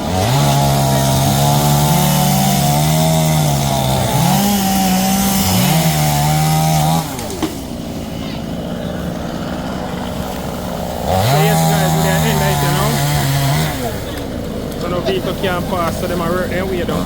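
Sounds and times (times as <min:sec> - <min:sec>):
chainsaw at high throttle: 0:00.0 - 0:17.0.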